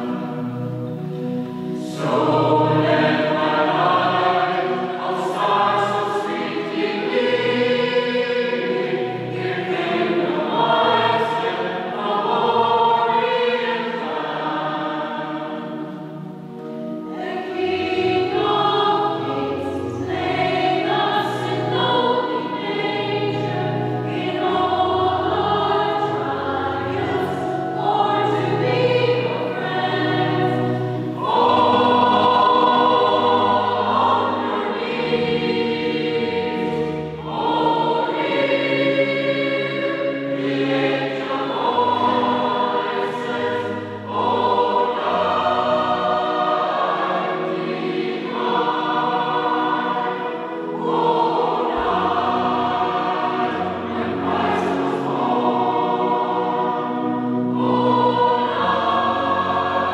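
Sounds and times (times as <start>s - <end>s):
choir singing carol: 0.0s - 59.9s.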